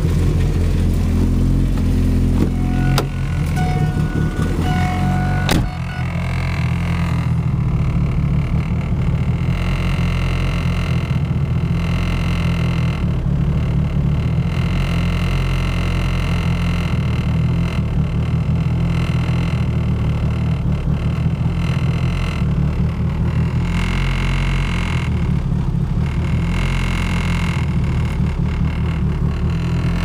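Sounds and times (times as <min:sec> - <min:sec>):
car engine running roughly: 0:00.0 - 0:30.0.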